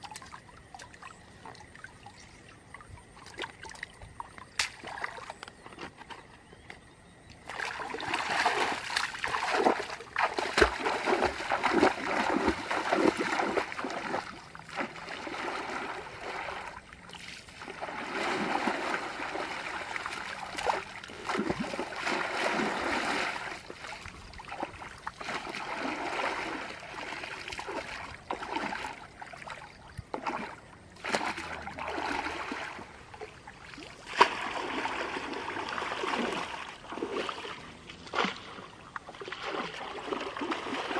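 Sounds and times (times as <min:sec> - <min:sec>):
muddy water splashing and sloshing: 0:00.0 - 0:40.9.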